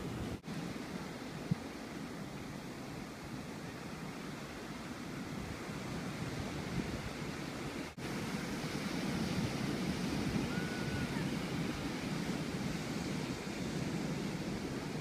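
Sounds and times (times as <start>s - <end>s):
wind buffeting microphone: 0.0s - 3.9s, 4.5s - 15.0s
ocean surf breaking: 0.0s - 15.0s.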